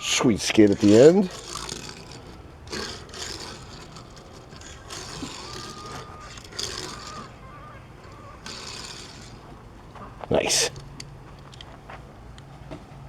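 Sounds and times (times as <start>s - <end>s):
toy car wheels scraping: 0.0s - 11.7s.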